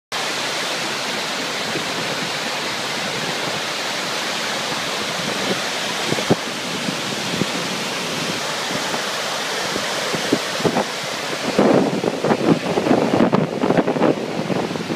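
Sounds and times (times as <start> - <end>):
waterfall rushing: 0.1 - 14.9.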